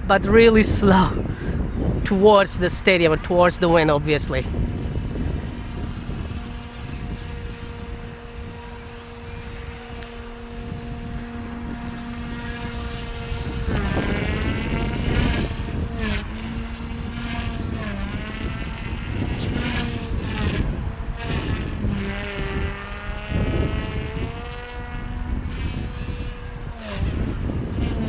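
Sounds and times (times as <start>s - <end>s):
rc helicopter rotor whining: 0.0s - 28.0s
wind rumbling on microphone: 0.0s - 28.0s.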